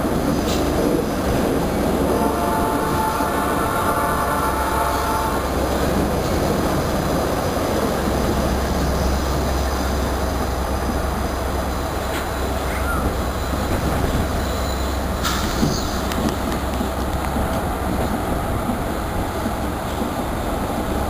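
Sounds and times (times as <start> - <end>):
locomotive engine drone: 0.0 - 21.0
train wheels rumbling on rails: 0.0 - 21.0.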